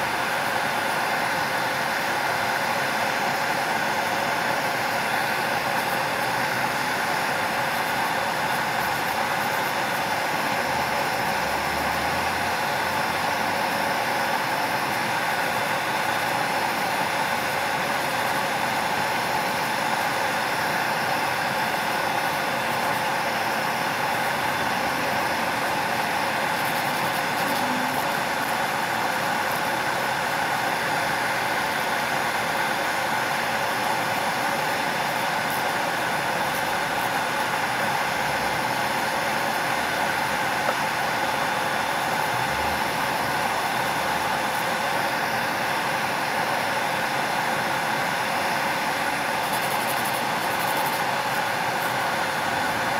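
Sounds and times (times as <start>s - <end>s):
small motor whirring: 0.0s - 46.4s, 47.3s - 52.9s.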